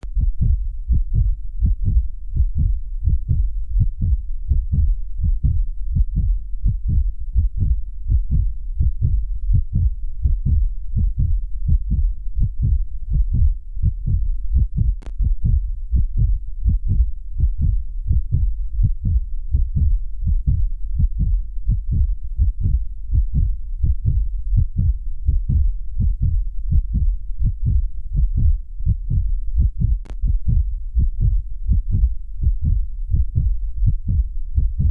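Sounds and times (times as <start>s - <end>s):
heartbeat thuds: 0.0s - 34.9s.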